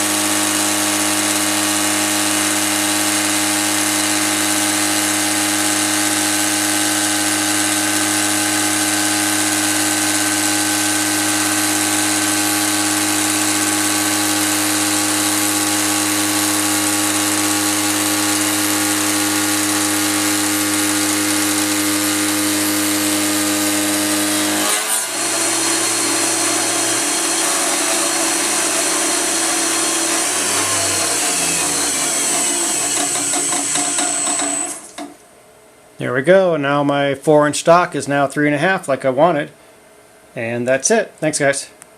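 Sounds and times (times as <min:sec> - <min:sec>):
milling machine cutting aluminium: 0:00.0 - 0:35.1.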